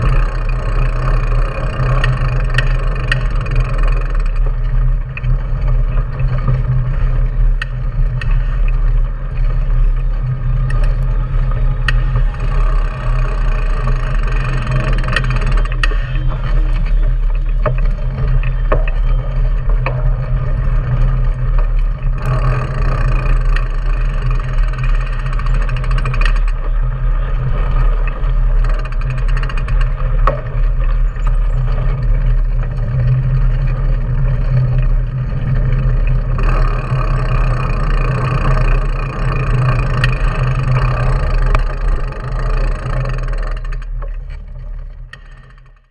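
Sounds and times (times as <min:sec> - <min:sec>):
bike tyre rolling on pavement: 0:00.0 - 0:45.9
small rattles and clicks: 0:00.0 - 0:45.9.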